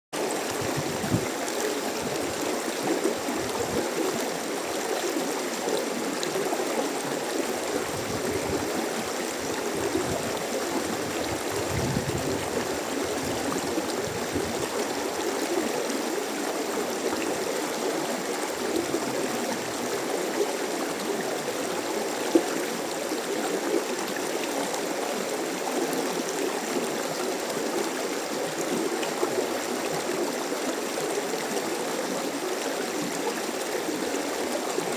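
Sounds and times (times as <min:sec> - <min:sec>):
mountain stream flowing: 0:00.2 - 0:34.9.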